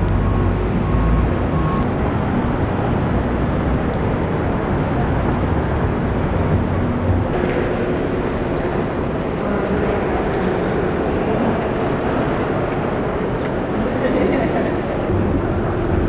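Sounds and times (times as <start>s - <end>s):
rumble of street traffic: 0.0s - 16.0s.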